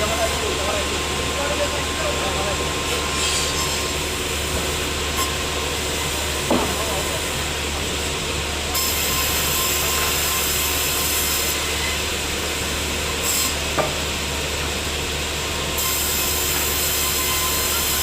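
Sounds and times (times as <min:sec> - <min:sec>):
sawmill saw cutting log: 0:00.0 - 0:18.0.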